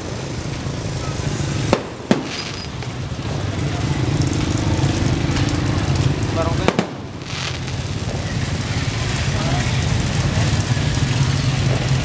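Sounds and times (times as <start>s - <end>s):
crowded street noise: 0.0s - 12.0s
firework bangs: 0.0s - 12.0s.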